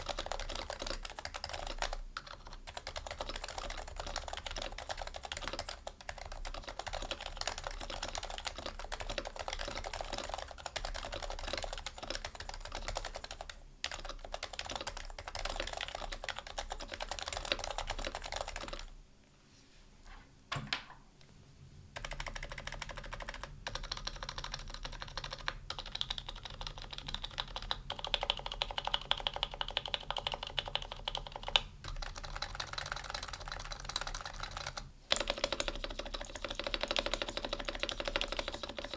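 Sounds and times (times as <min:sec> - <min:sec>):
keyboard typing: 0:00.0 - 0:18.9, 0:22.0 - 0:38.9.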